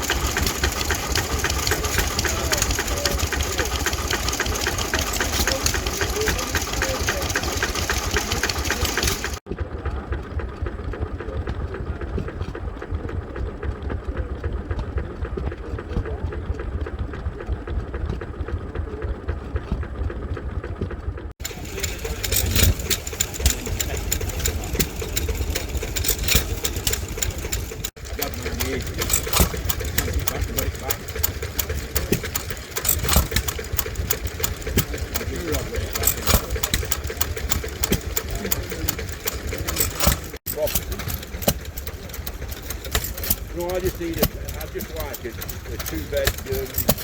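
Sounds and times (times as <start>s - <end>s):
stationary engines running: 0.0s - 47.0s.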